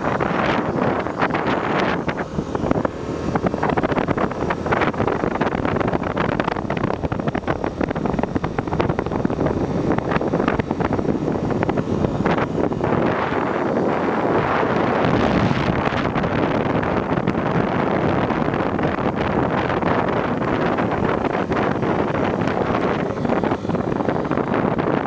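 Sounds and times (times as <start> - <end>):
motorcycle engine running: 0.0 - 25.0
wind buffeting microphone: 0.0 - 25.0.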